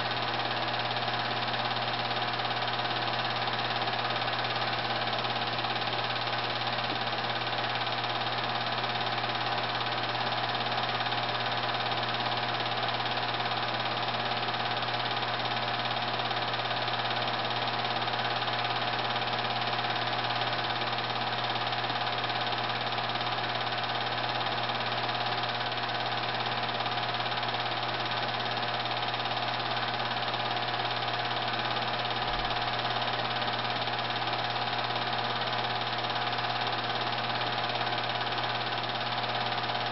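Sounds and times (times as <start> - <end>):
film projector mechanical hum: 0.0 - 39.9.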